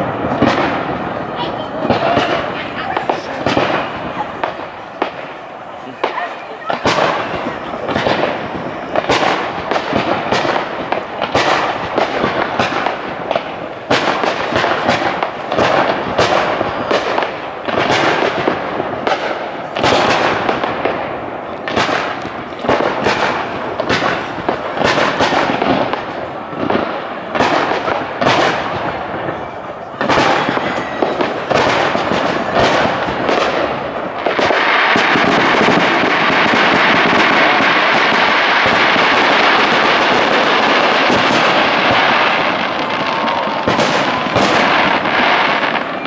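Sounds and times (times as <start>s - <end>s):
fireworks bangs: 0.0s - 46.0s
fireworks crackling: 0.0s - 46.0s.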